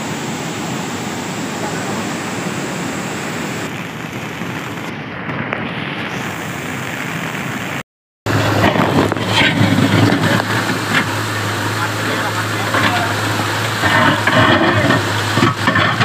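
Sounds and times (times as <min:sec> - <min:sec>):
floodwater rushing over dam: 0:00.0 - 0:16.0.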